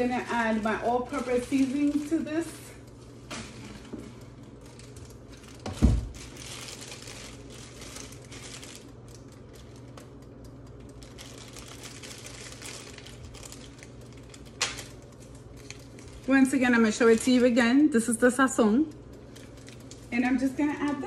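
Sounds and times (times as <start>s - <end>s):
plastic bag crinkling: 0.0s - 18.0s, 18.9s - 21.0s.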